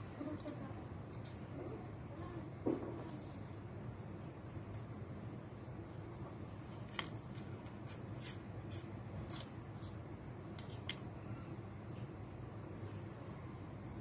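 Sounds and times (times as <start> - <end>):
low background hum: 0.0 - 14.0
small bird chirping: 0.1 - 13.7.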